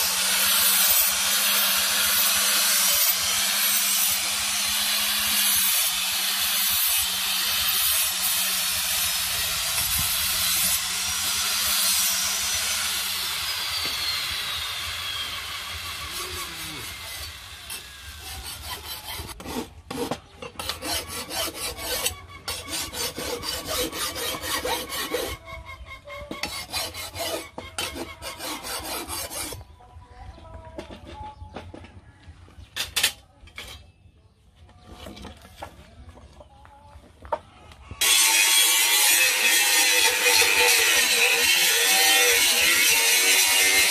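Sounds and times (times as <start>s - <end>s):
angle grinder on steel: 0.0s - 29.6s, 38.0s - 43.9s.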